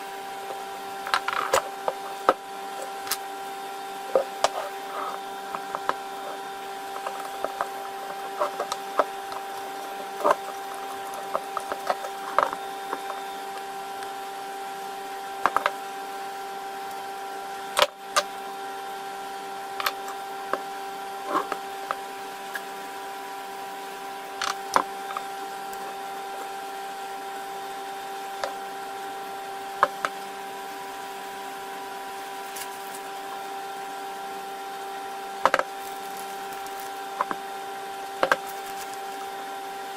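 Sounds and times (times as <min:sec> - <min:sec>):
background hum: 0:00.0 - 0:39.9.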